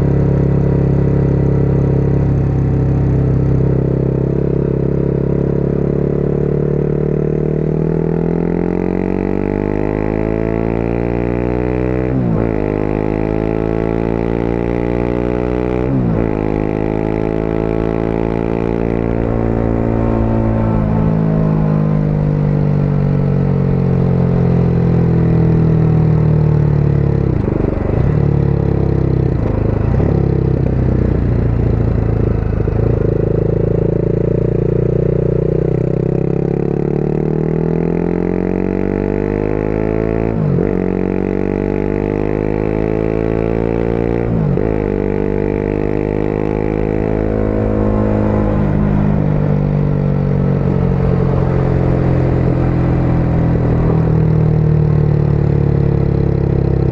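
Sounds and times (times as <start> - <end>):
motorcycle engine revving: 0.0 - 56.9
road and wind noise: 0.0 - 56.9.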